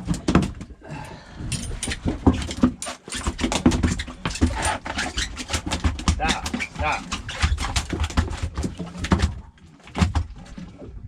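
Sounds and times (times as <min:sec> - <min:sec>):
fish thrashing on boat deck: 0:00.0 - 0:10.9.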